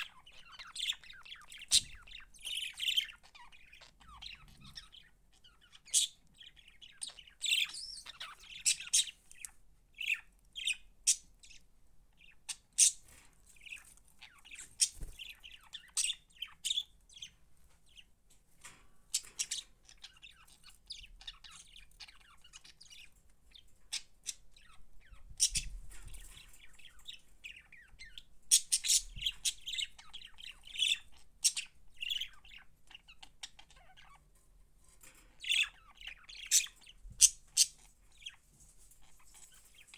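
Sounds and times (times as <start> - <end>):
budgies chirping and squawking: 0.0 - 11.6, 12.2 - 34.4, 35.0 - 39.9.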